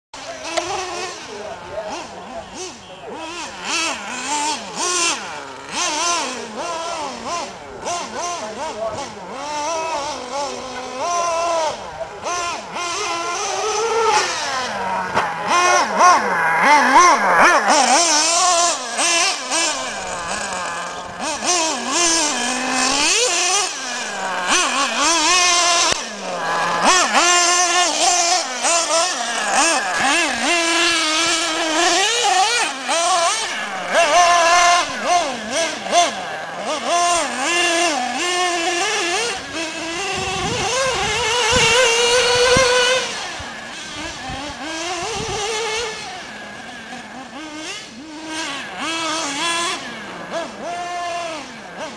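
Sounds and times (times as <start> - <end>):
model engine buzzing and revving: 0.2 - 51.9.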